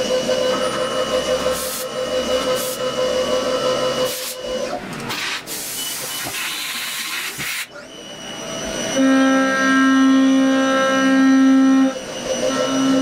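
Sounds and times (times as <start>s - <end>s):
milling cutter whine: 0.0s - 5.1s, 7.6s - 13.0s.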